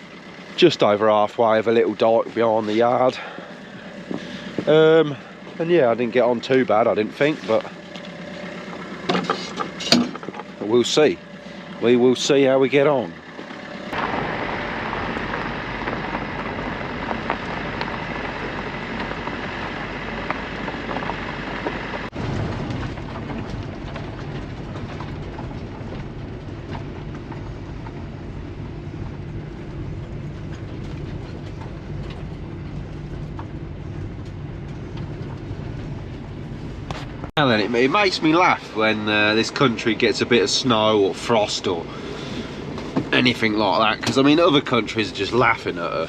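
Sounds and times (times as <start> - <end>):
van engine inside cab: 0.0 - 46.0.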